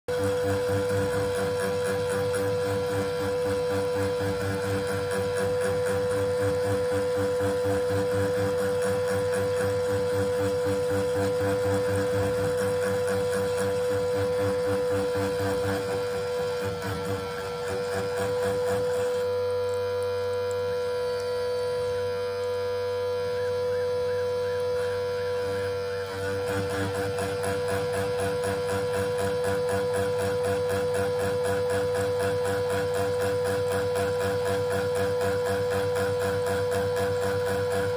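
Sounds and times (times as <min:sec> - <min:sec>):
rhythmic rattle of cutting: 0:00.1 - 0:22.1, 0:23.1 - 0:37.9
spindle whining: 0:00.1 - 0:37.9.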